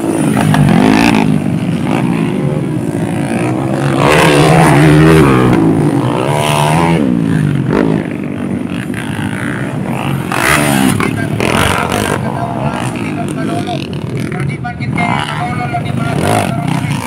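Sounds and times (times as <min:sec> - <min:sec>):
motorcycle engine revving hard: 0:00.0 - 0:17.0.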